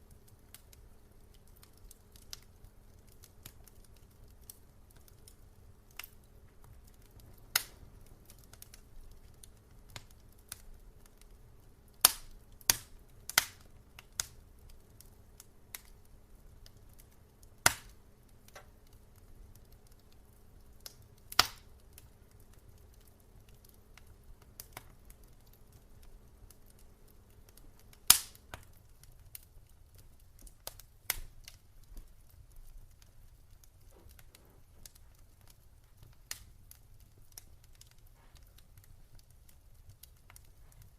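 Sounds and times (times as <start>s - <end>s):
faint steady hum: 0.0s - 40.9s
fire popping: 0.0s - 40.9s
wood fire crackling: 0.0s - 40.9s.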